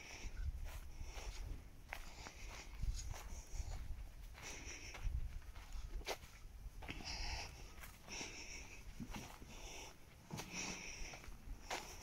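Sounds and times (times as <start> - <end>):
footsteps on dry grass: 0.0 - 12.0.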